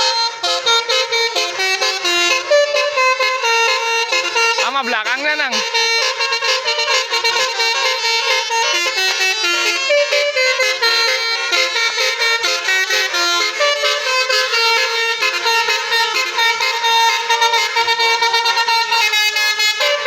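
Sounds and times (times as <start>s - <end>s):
musical air horns playing melody: 0.0s - 20.0s.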